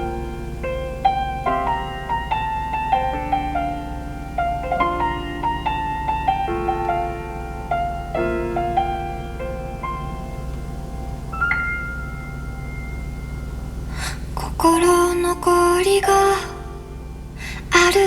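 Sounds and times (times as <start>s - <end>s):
piano ballad through car speakers: 0.0s - 18.0s.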